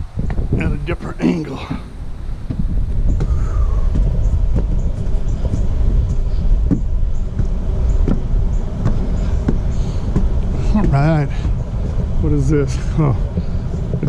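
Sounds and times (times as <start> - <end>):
footsteps climbing stairs: 0.0 - 14.0
wind rumble on microphone: 0.0 - 14.0.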